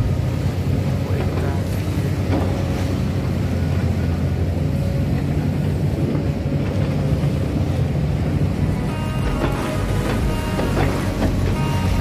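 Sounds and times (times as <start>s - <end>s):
excavator diesel engine rumbling: 0.0s - 12.0s.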